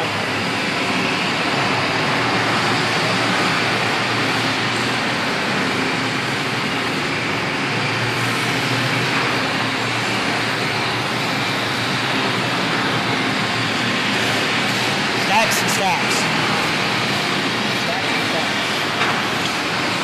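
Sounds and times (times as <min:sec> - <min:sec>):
steady industrial noise: 0:00.0 - 0:20.0.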